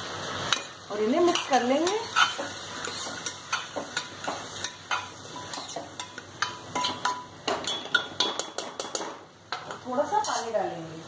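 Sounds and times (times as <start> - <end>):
faint oil sizzle: 0.0 - 11.0
metal spoon scraping a pot: 0.5 - 9.0, 10.2 - 10.6.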